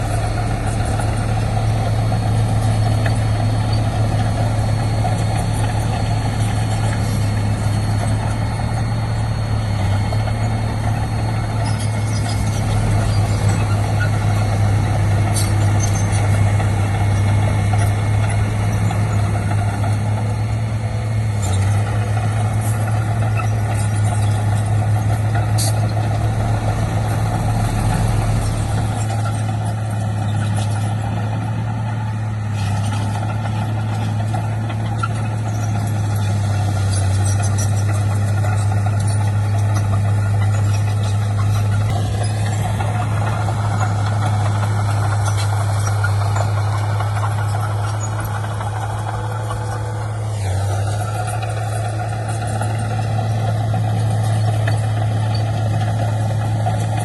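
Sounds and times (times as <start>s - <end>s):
heavy diesel engine drone: 0.0s - 57.0s.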